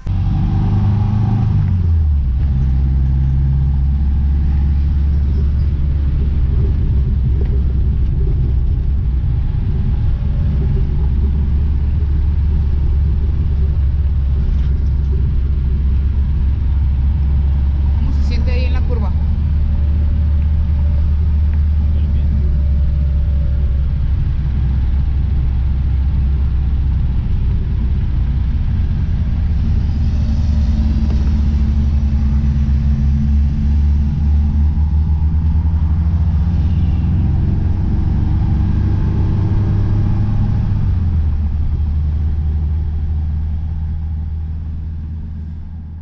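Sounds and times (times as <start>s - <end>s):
car engine from inside cabin: 0.0s - 46.0s.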